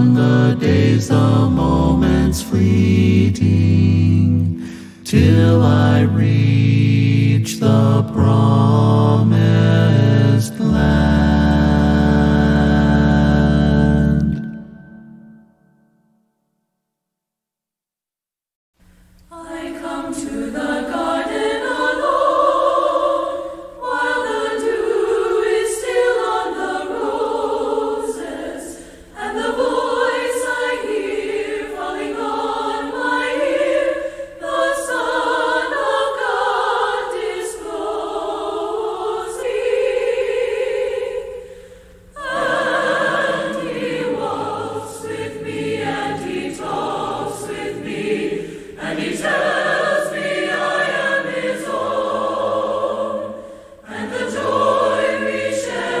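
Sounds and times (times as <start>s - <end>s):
choir singing a hymn: 0.0s - 15.4s, 19.3s - 56.0s.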